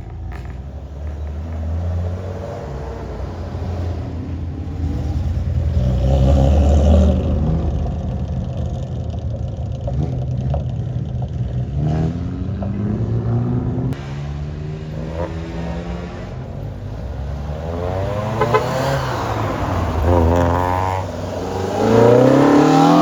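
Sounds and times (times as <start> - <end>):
car engines driving off: 0.0 - 23.0.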